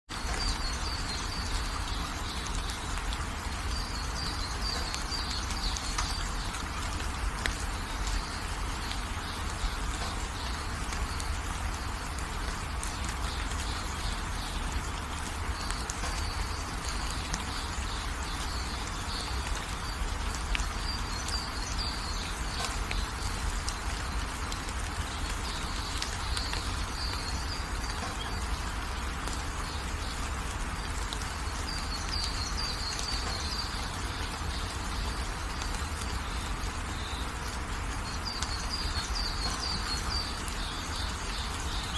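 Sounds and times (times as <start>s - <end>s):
light rain hissing: 0.1s - 41.9s
small birds chirping: 0.1s - 41.9s.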